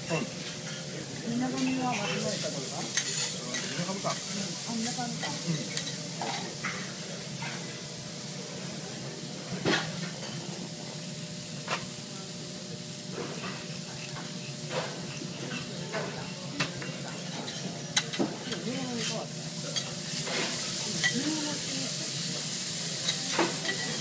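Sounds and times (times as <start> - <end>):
beef sizzling on a griddle: 0.0 - 24.0.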